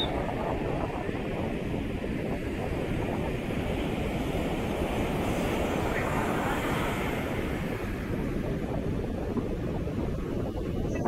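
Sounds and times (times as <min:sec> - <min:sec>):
small surf waves breaking: 0:00.1 - 0:10.6.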